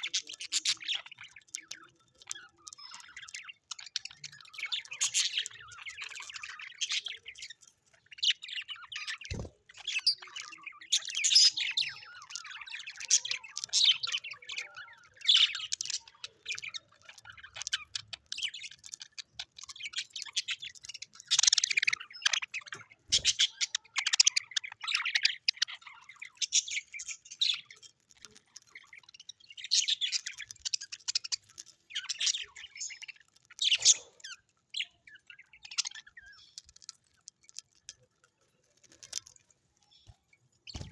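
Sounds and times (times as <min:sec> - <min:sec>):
parrots chirping: 0:00.0 - 0:40.9.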